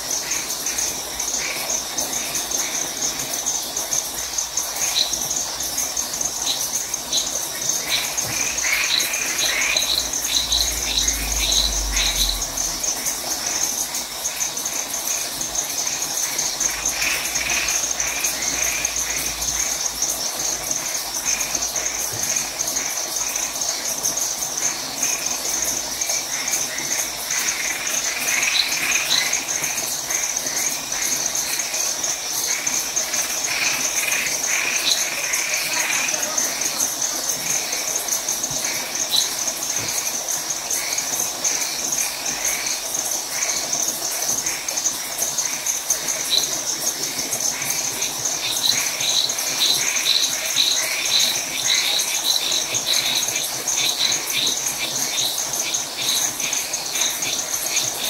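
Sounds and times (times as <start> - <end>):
crickets trilling: 0.0 - 58.0
frogs calling: 0.0 - 58.0.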